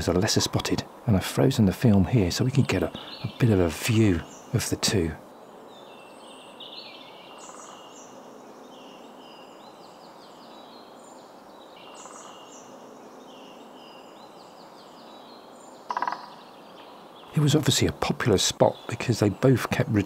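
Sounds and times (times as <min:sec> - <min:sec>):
soft steady background hiss: 0:00.0 - 0:20.0
songbirds singing: 0:00.0 - 0:20.0.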